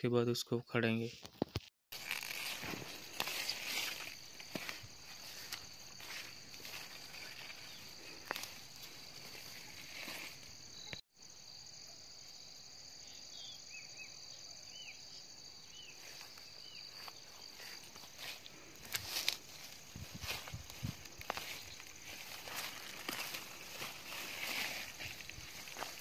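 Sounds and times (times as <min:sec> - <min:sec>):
insects chorus: 0:02.0 - 0:26.0.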